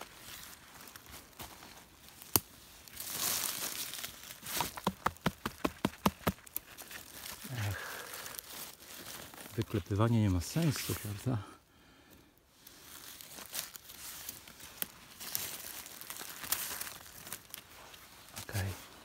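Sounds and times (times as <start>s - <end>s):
dry leaves rustling and crackling: 0.0s - 11.4s, 12.5s - 19.0s.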